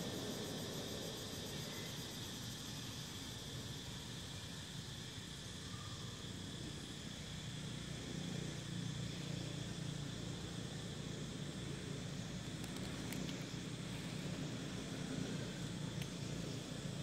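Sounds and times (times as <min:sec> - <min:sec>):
high insect hum: 0:00.0 - 0:17.0.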